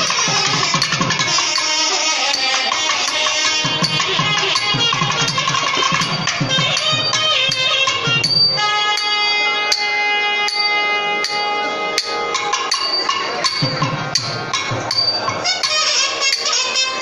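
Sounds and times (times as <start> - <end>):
double reed horn melody: 0.0 - 13.6, 15.3 - 17.0
sharp drum strokes: 0.0 - 17.0.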